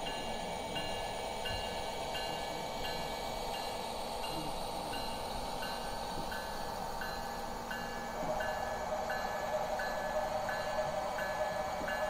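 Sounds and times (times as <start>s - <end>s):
model locomotive bell ringing: 0.0s - 12.0s
model train running rumble: 0.0s - 12.0s.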